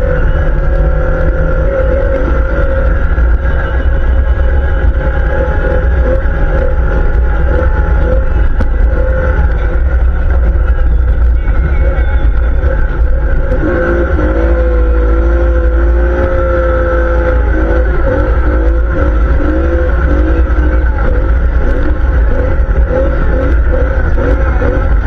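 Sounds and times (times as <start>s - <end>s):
atv engine revving: 0.0s - 25.0s.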